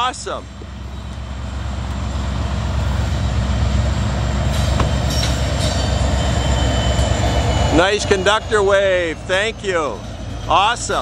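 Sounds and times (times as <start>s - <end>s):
diesel locomotive engine rumble: 0.0s - 11.0s
train wheels on rails: 0.3s - 11.0s.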